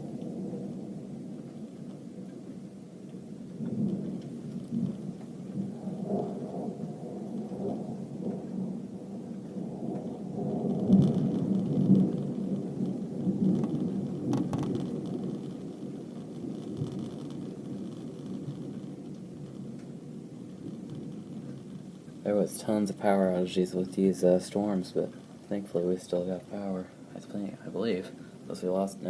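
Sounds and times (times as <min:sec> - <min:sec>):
heavy rain: 0:00.0 - 0:29.0
thunder rumbling: 0:00.0 - 0:29.0.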